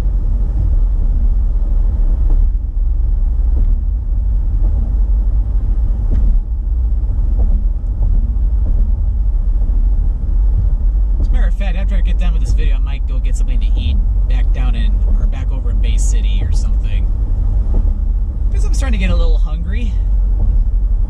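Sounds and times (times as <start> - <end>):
car engine running: 0.0 - 21.0
road and tyre noise in car: 0.0 - 21.0.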